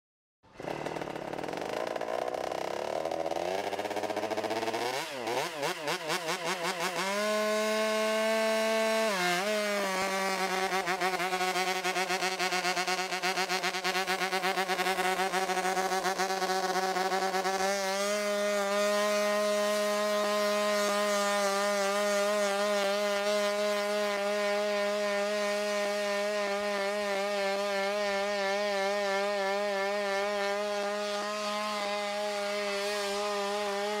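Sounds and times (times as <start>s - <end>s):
combustion engine buzzing: 0.4s - 34.0s.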